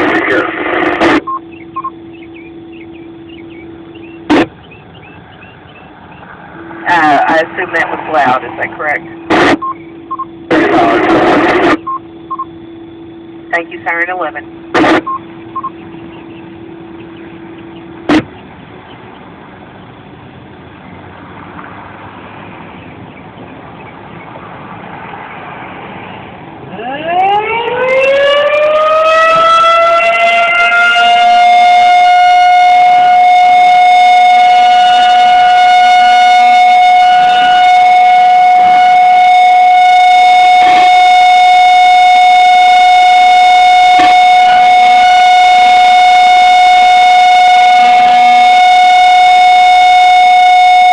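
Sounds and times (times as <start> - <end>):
warning siren wailing: 0.0 - 50.9.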